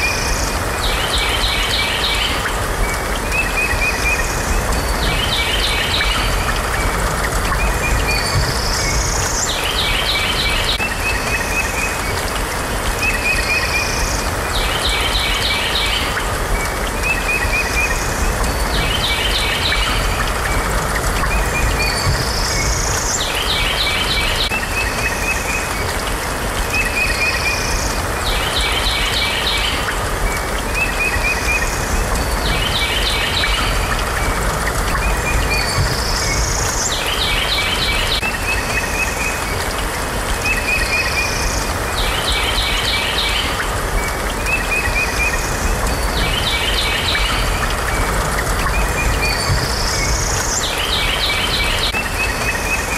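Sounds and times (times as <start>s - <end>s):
rain-like hiss: 0.0s - 52.9s.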